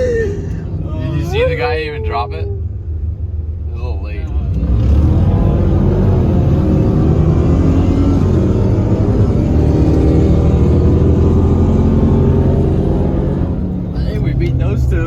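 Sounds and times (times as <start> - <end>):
vehicle engine under heavy throttle: 0.0 - 15.0.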